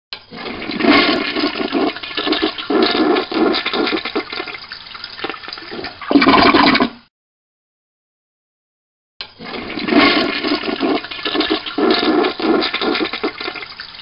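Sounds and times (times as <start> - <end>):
toilet flushing: 0.3 - 7.0, 9.4 - 14.0.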